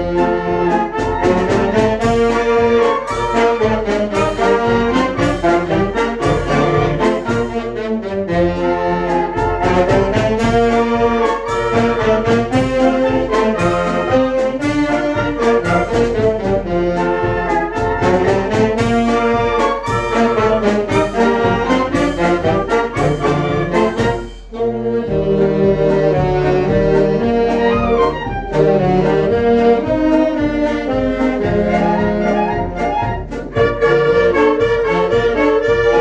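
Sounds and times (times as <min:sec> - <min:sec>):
percussion beat: 0:00.0 - 0:36.0
trombones and trumpets: 0:00.0 - 0:36.0.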